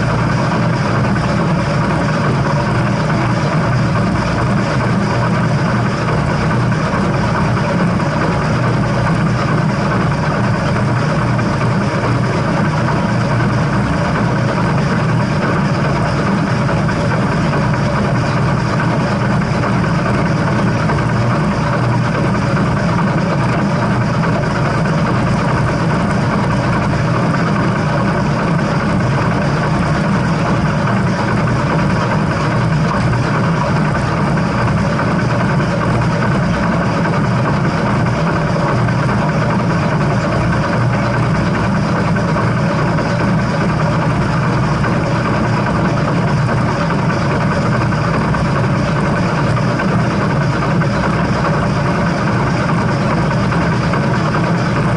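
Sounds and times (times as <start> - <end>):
steam train rumble: 0.0 - 54.9.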